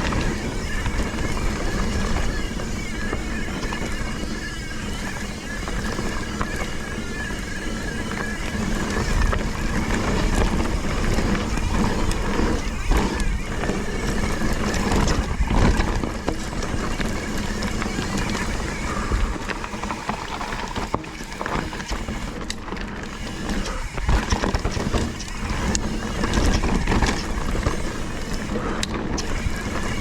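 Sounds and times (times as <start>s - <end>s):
bike rattling over rough ground: 0.0s - 30.0s
wind and tyre noise: 0.0s - 30.0s.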